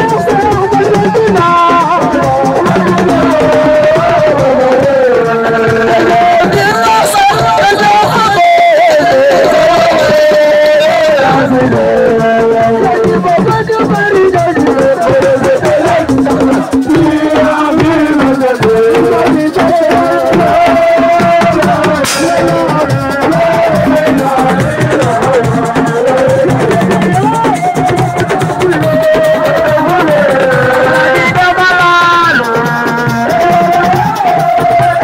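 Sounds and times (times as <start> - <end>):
dense continuous drumming: 0.0 - 30.8
person singing wavering melody: 0.0 - 35.0
rattling percussion: 0.0 - 35.0.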